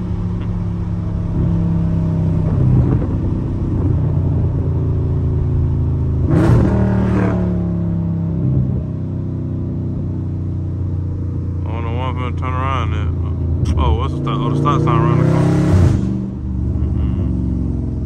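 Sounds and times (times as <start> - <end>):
car exhaust at low revs: 0.0 - 18.0.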